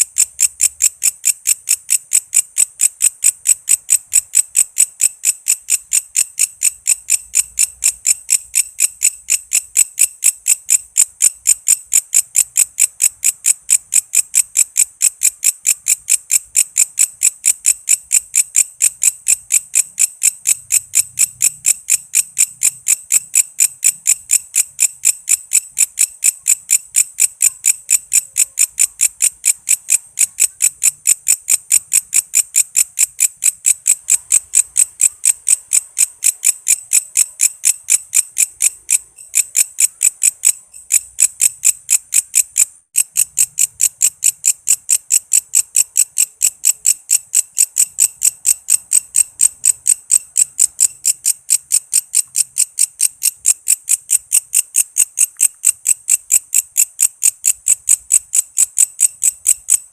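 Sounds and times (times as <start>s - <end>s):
insect chirping pulses: 0.0s - 59.9s.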